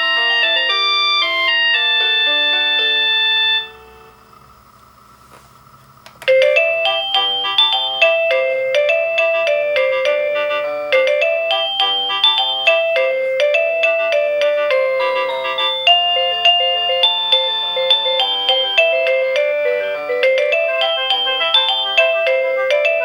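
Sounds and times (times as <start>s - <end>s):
electronic doorbell chime melody: 0.0s - 4.5s, 6.2s - 23.0s.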